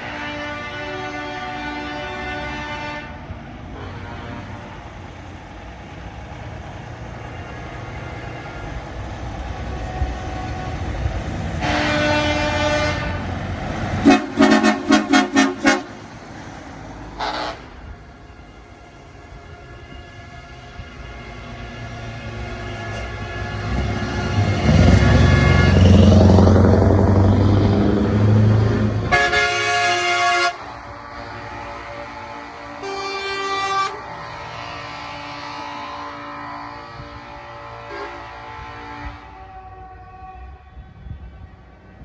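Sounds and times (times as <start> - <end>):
truck air horn blasts: 0.0 - 5.0, 11.6 - 16.2, 17.1 - 41.6
diesel engines rumbling: 0.0 - 42.0.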